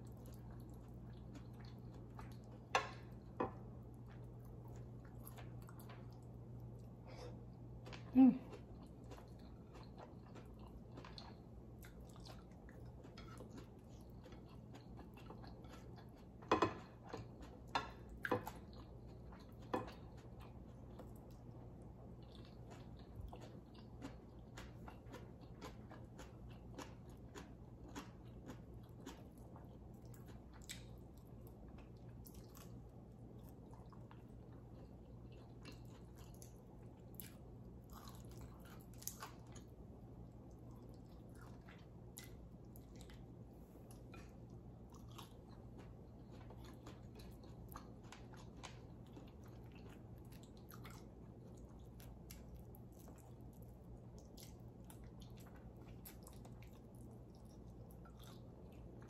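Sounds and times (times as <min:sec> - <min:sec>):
faint low hum: 0:00.0 - 0:59.0
person chewing food: 0:00.0 - 0:59.0.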